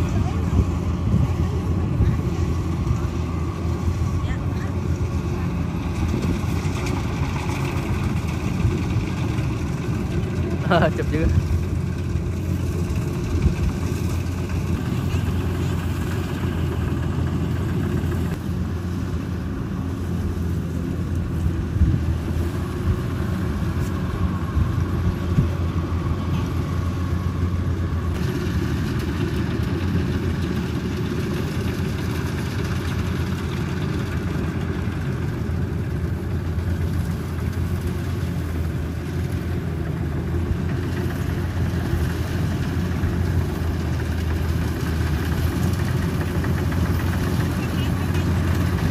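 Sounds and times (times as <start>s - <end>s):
combine harvester engine drone: 0.0s - 48.9s.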